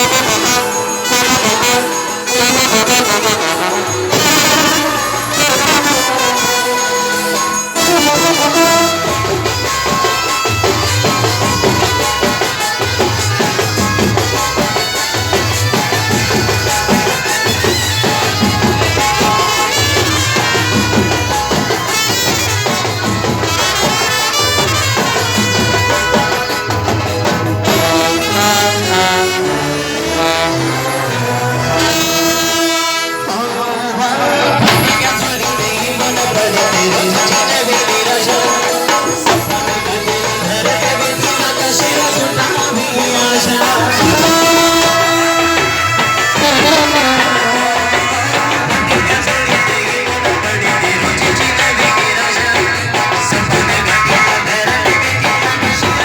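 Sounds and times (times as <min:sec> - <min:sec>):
steady drum beat: 0:00.0 - 0:33.4, 0:34.1 - 0:56.0
brass band playing: 0:00.0 - 0:56.0.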